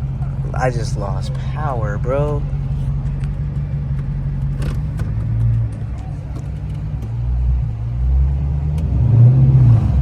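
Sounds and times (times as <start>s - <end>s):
car rumbling: 0.0s - 10.0s.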